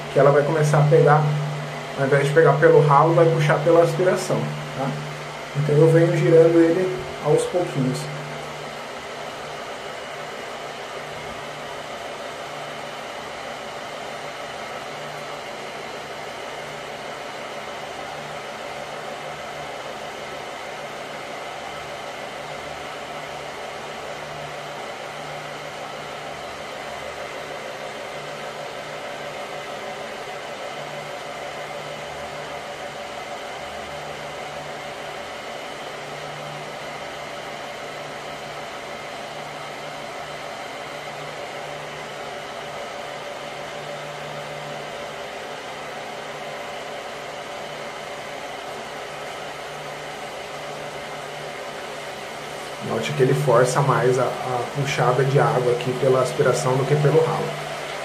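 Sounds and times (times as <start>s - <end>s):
pool pump motor whirring: 0.0s - 58.0s.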